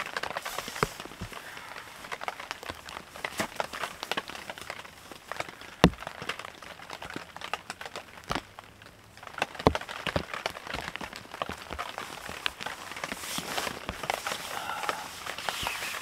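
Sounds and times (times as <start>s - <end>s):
nylon tent door rustling: 0.0s - 8.4s, 9.2s - 16.0s
rain tapping on tent fabric: 0.0s - 16.0s.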